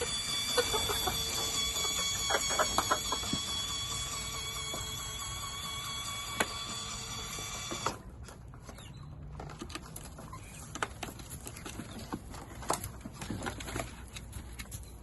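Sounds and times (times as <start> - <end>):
chickens scratching: 0.0 - 5.2, 8.0 - 15.0.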